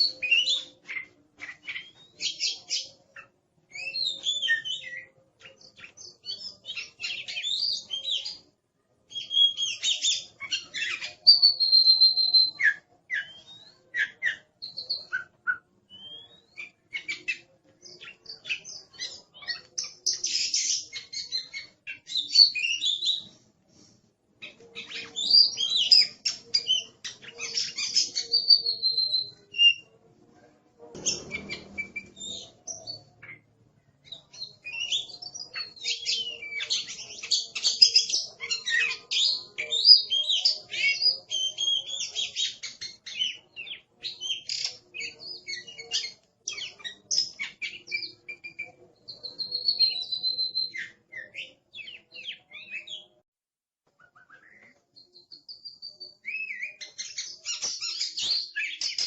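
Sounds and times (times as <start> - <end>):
songbird singing whistles and chirps: 0.0 - 8.5, 9.1 - 30.0, 30.9 - 53.2, 54.0 - 59.0.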